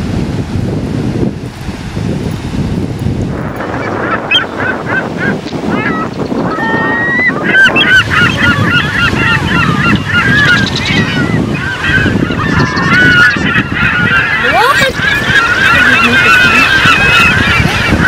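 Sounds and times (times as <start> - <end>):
gulls squawking: 3.3 - 18.0.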